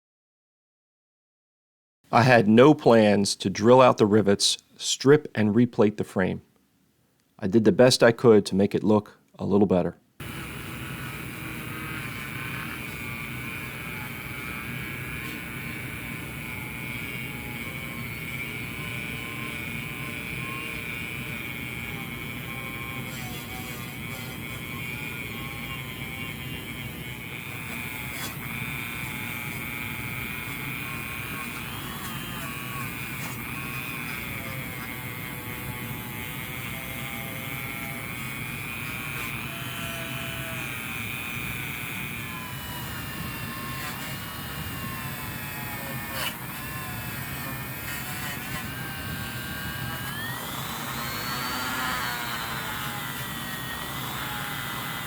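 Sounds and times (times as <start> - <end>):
rotary tool motor whine: 10.2 - 55.0.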